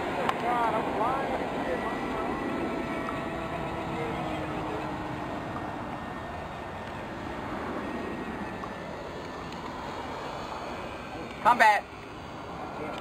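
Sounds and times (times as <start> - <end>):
model airplane motors droning: 0.0 - 13.0.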